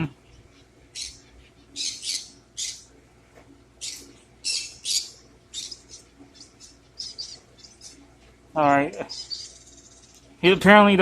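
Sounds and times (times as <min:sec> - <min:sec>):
pet bird chirping: 0:00.2 - 0:03.0, 0:03.8 - 0:10.4.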